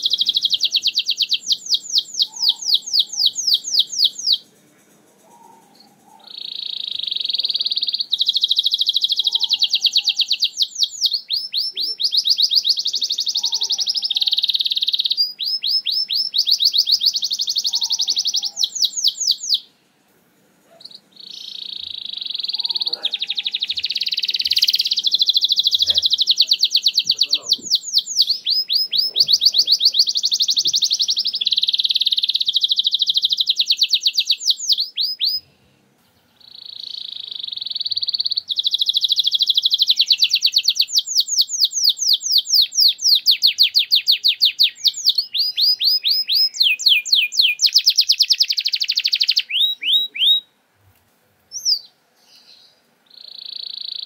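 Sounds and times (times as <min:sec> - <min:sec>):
canary singing trills: 0:00.0 - 0:19.8, 0:20.6 - 0:50.5, 0:51.5 - 0:54.0.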